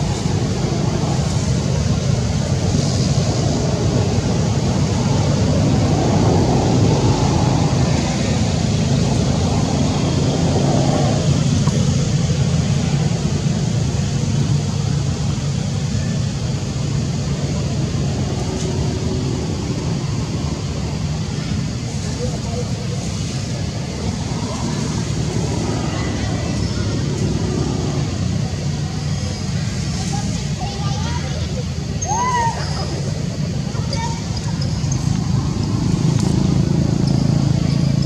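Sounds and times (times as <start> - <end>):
low rumble with hiss: 0.0 - 38.0.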